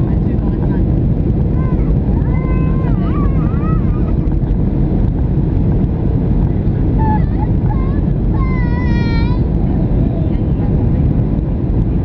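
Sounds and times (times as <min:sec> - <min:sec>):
jet engine cabin rumble: 0:00.0 - 0:12.0
passengers' voices: 0:00.0 - 0:12.0.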